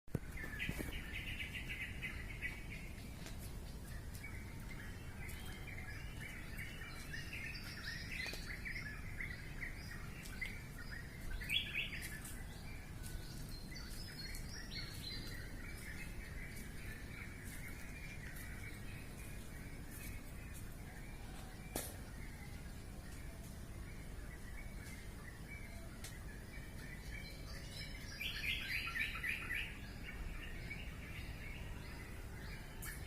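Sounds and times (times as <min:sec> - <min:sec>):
birds chirping: 0:00.1 - 0:33.0.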